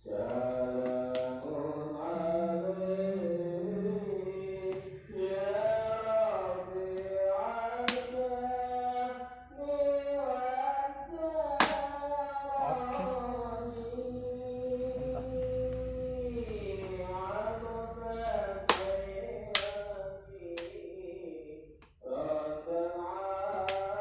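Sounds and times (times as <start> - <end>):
devotional chanting: 0.0 - 24.0.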